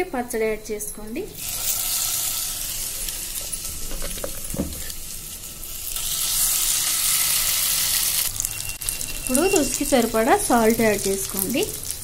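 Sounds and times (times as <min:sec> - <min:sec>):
paste sizzling in hot oil: 0:01.4 - 0:12.0.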